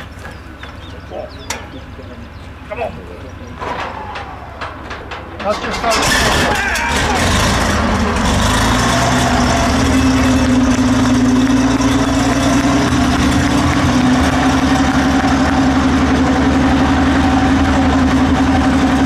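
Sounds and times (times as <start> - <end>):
tank engine idling: 0.0 - 19.0.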